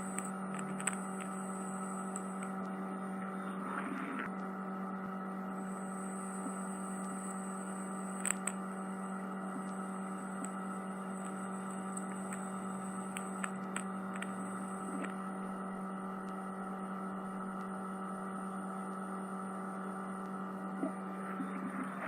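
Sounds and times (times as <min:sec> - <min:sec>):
electrical hum: 0:00.0 - 0:22.0
faint high whine: 0:00.0 - 0:22.0.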